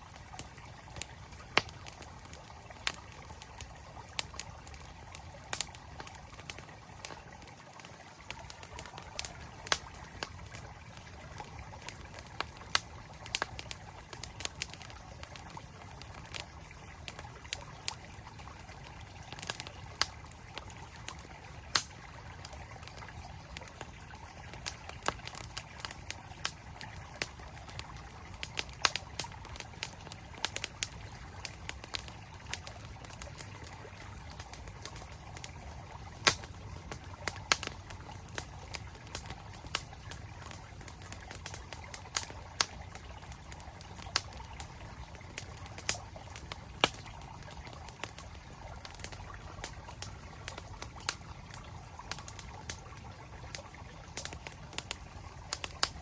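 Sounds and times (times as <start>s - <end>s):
campfire crackling and popping: 0.0s - 56.0s
stream water flowing: 0.0s - 56.0s.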